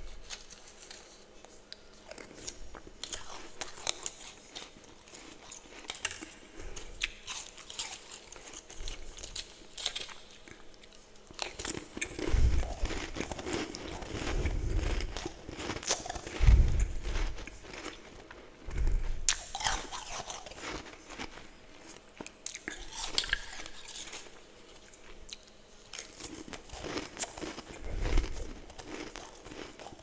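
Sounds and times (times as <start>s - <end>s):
chewing and crunching frost: 0.0s - 30.0s.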